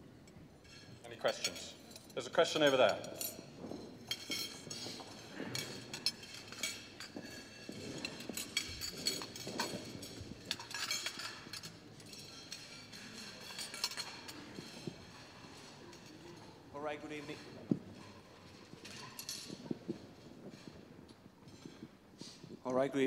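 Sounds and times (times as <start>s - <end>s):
low room noise: 0.0s - 23.0s
cutlery and dishes clinking: 0.2s - 22.6s.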